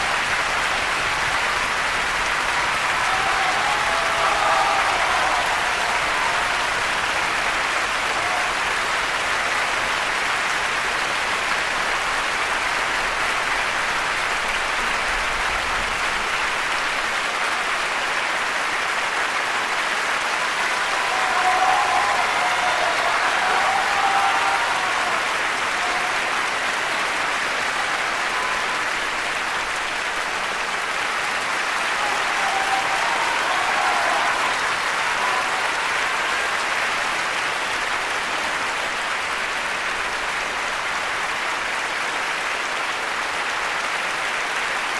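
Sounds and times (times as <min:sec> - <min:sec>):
audience applause: 0:00.0 - 0:44.9.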